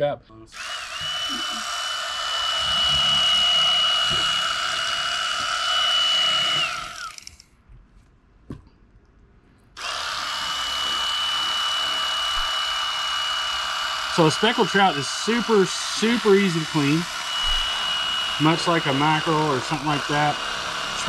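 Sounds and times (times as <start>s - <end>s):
electric fillet knife whining: 0.5s - 7.4s, 9.8s - 21.0s.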